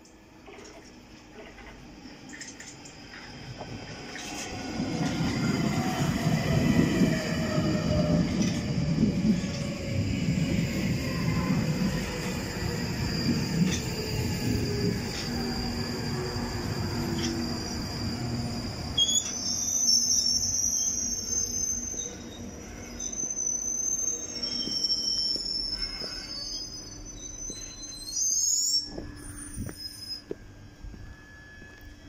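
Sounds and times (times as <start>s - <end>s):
train low rumble: 0.0s - 32.0s
high wavering train squeals: 0.6s - 32.0s.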